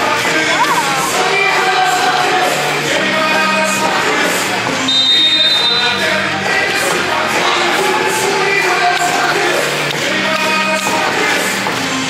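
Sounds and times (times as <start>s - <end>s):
cheer music over loudspeakers: 0.0s - 12.0s
crowd singing along: 0.0s - 12.0s.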